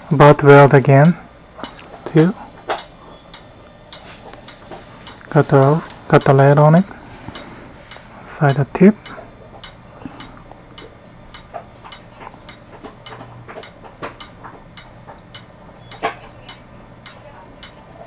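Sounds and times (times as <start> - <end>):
steady low hum: 0.0 - 18.0
faint even ticking: 1.5 - 18.0.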